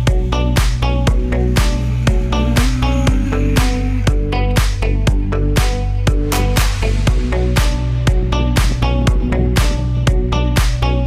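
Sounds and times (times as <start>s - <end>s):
electronic dance music: 0.0s - 10.8s.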